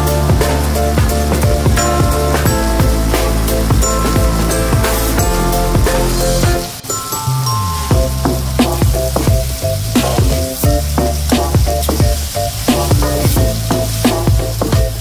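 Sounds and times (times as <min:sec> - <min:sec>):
plucked background tune: 0:00.0 - 0:15.0
food sizzling in a wok: 0:00.1 - 0:15.0.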